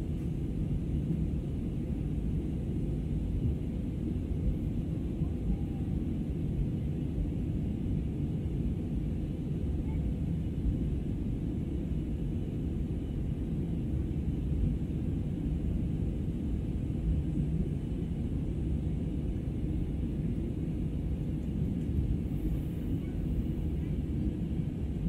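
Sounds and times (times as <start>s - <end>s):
jet engine rumble in cabin: 0.0s - 25.0s.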